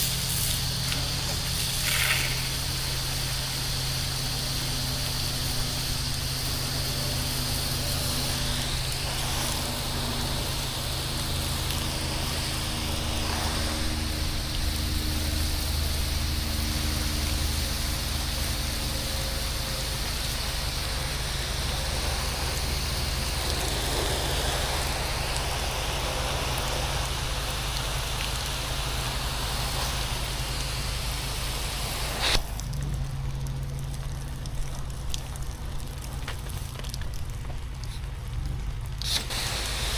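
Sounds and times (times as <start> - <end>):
pressure washer running: 0.0 - 38.2, 38.9 - 39.9
water spraying onto a surface: 0.0 - 39.9.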